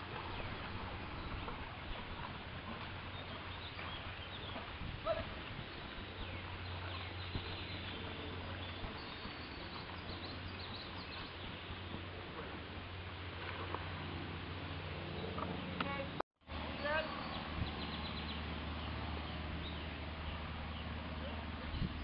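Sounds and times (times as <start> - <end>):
birds chirping: 0.0 - 13.2, 14.5 - 22.0
outdoor background noise: 0.0 - 22.0.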